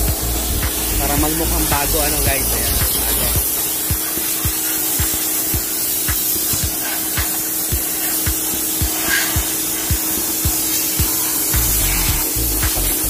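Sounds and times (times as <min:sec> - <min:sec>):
compressed air spray hissing: 0:00.0 - 0:13.0.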